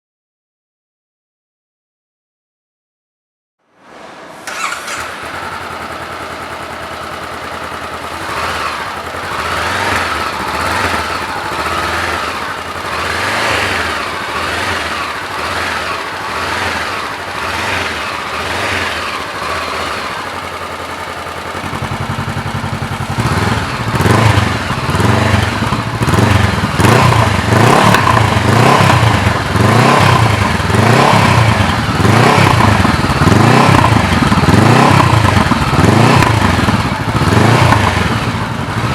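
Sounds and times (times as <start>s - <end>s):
motorcycle engine revving: 4.3s - 38.9s.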